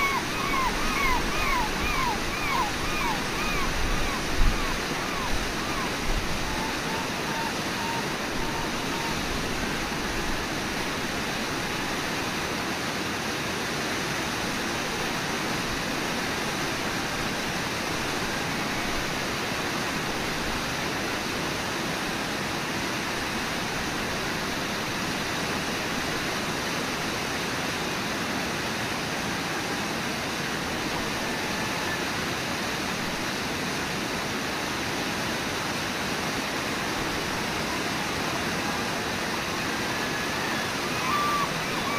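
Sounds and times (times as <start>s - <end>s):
fast-flowing river water rushing: 0.0s - 41.9s.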